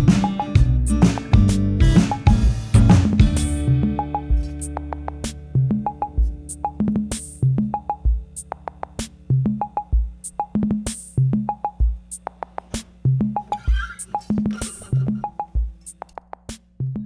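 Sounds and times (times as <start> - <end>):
electronic music with drum-machine beat: 0.0 - 17.0.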